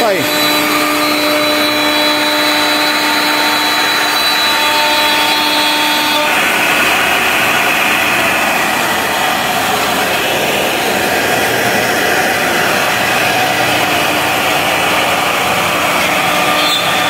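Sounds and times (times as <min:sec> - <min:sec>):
dust extractor rushing: 0:00.0 - 0:17.0
router spindle cutting: 0:00.0 - 0:17.0.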